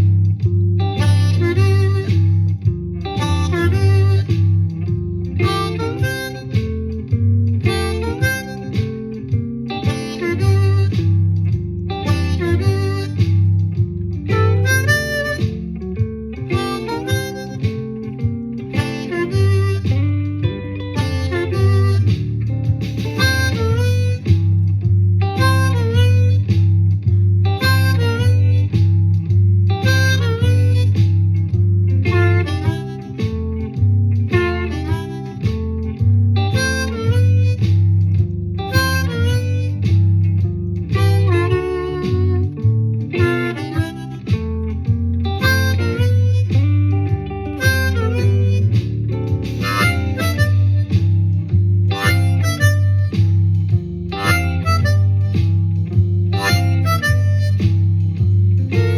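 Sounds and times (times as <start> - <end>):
guitar and bass shuffle: 0.0 - 58.9
harmonica playing blues: 0.9 - 58.9.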